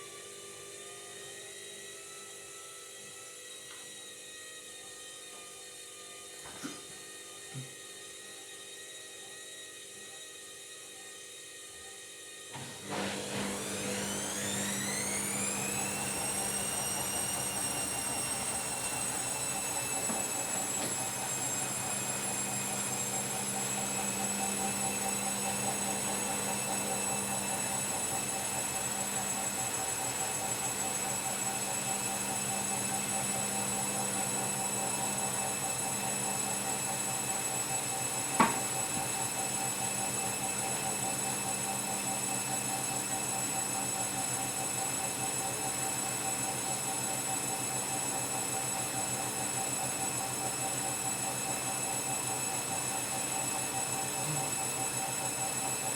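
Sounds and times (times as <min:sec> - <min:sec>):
washing machine motor whine: 0:00.0 - 0:55.9.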